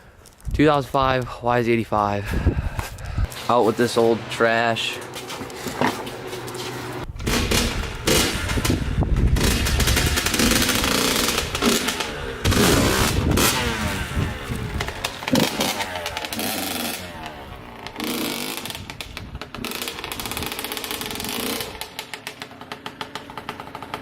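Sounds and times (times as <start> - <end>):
two-stroke engine revving: 4.0 - 24.0.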